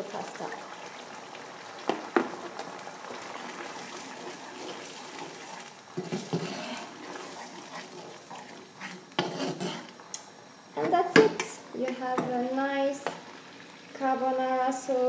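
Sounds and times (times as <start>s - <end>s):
sauce bubbling in frying pan: 0.0s - 15.0s.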